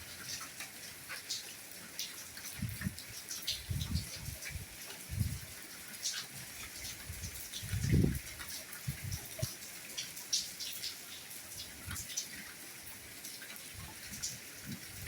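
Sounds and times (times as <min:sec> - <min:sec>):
soft rain falling: 0:00.0 - 0:15.0.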